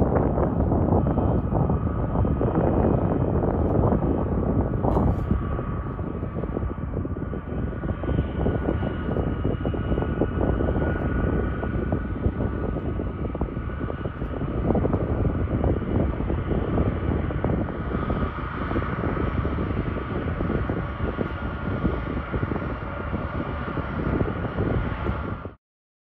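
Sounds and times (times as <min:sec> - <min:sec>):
jet engines running loud: 0:00.0 - 0:25.6.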